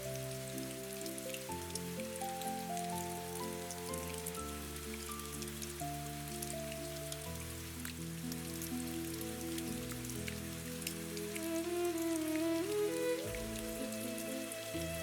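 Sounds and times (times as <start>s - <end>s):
rain pattering: 0.0s - 15.0s
soft ambient music: 0.0s - 15.0s.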